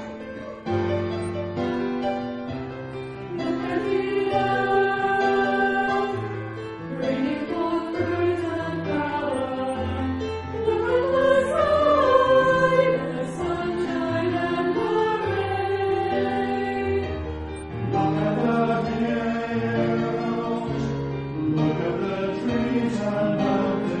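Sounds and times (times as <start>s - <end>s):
church choir singing: 0.0s - 24.0s.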